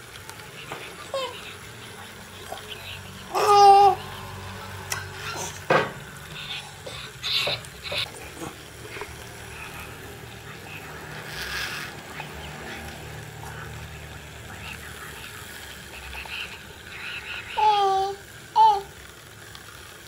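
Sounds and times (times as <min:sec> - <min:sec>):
toy train motor whir: 0:00.0 - 0:20.0.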